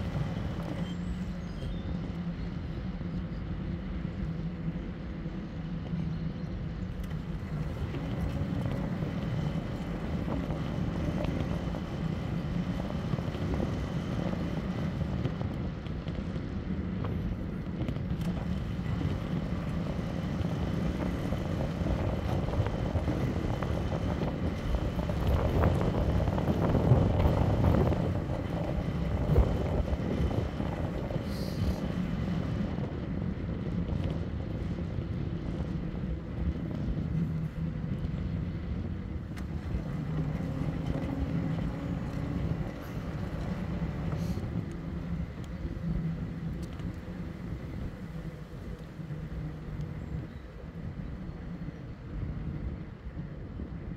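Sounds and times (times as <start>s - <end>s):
e-bike tyre and wind rumble: 0.0s - 53.9s.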